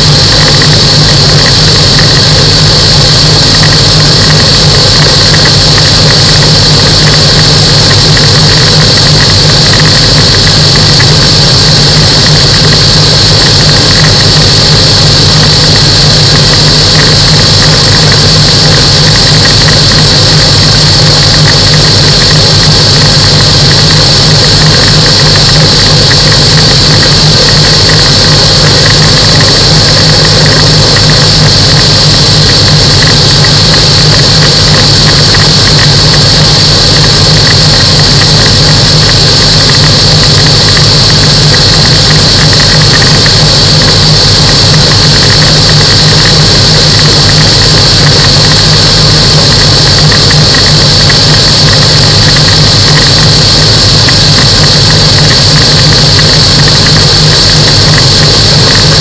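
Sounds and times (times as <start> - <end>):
aircraft engine droning: 0.0 - 55.2
constant high whine: 0.0 - 59.0.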